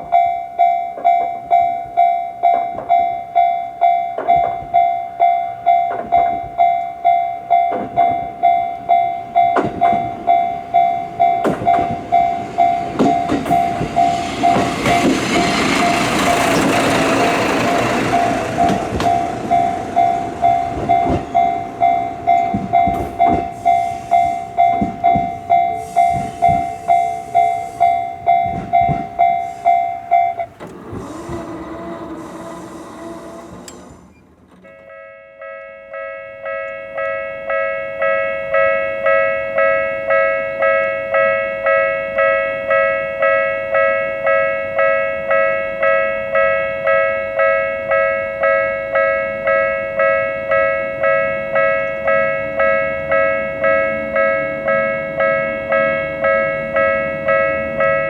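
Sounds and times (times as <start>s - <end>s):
train passing: 0.0s - 34.2s, 36.4s - 58.0s
level-crossing warning bell: 0.0s - 58.0s.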